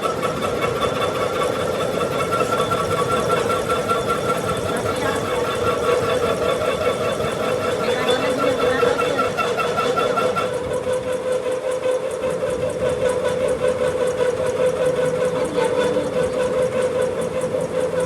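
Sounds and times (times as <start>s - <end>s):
workshop machine humming: 0.0s - 18.0s.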